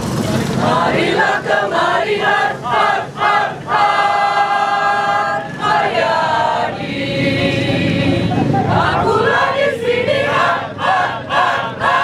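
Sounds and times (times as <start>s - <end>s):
mixed choir singing: 0.2s - 12.0s.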